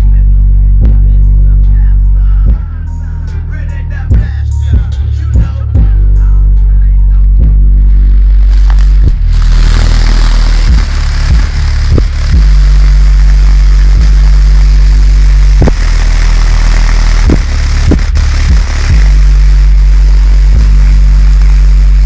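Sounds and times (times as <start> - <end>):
subwoofer pounding bass music: 0.0 - 22.0.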